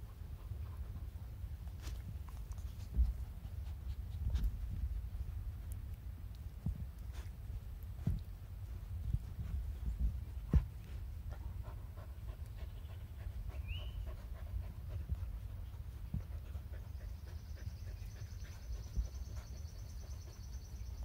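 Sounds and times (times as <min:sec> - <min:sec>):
dogs panting: 0:00.0 - 0:05.8, 0:08.0 - 0:21.0.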